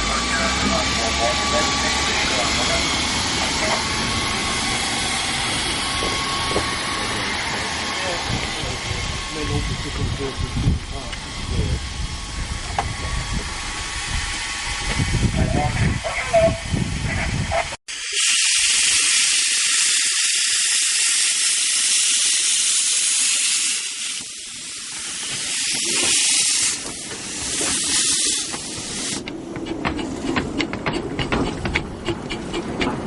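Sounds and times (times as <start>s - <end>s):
steam locomotive hissing steam: 0.0s - 32.8s.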